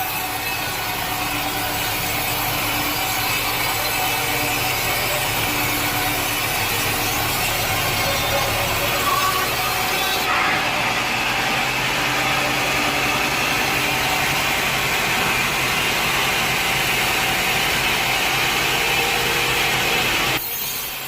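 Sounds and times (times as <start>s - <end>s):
engine drone: 0.0s - 21.0s
saw cutting wood: 0.0s - 21.0s.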